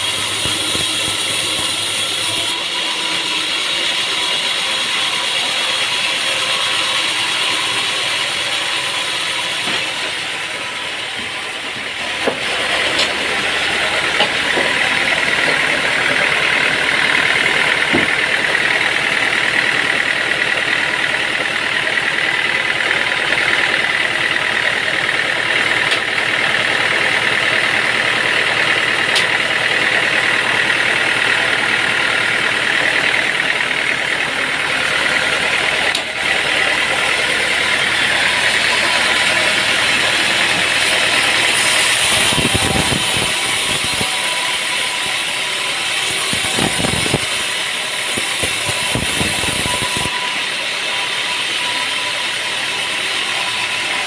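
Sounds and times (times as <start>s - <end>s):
high whine: 0.0s - 54.0s
machine engine running: 0.0s - 54.0s.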